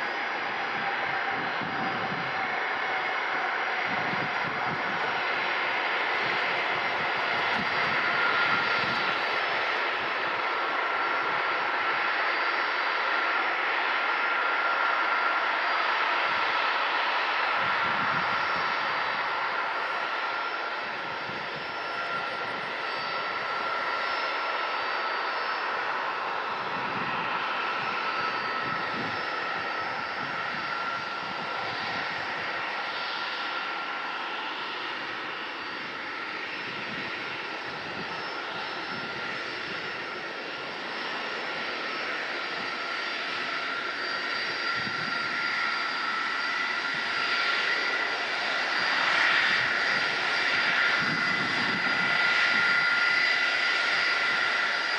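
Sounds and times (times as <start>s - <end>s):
jet engines running with whine: 0.0s - 54.9s.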